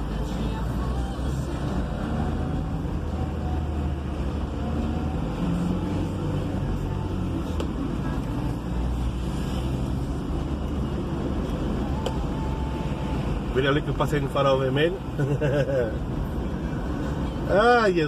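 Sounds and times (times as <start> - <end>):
diesel engine rumble: 0.0 - 18.0
road noise: 0.0 - 18.0.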